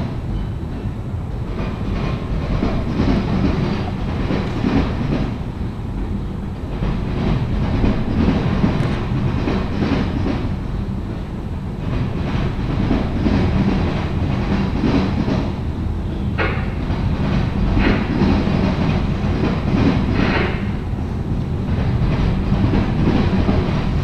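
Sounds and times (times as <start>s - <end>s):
train rumble: 0.0s - 24.0s
train wheels clacking over rail joints: 0.0s - 24.0s.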